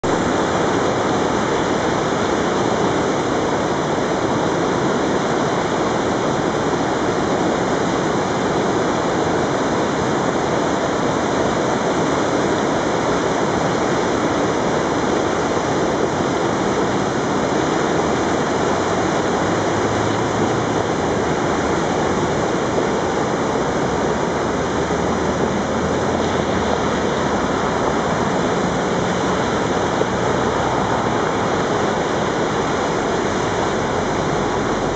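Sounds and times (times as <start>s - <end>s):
flooded creek roaring over rocks: 0.0s - 34.9s.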